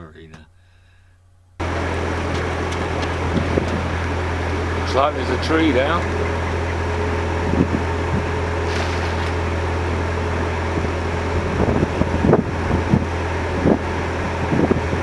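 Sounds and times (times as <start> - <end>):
boat engine humming: 1.3 - 15.0
wind buffeting microphone: 1.6 - 15.0.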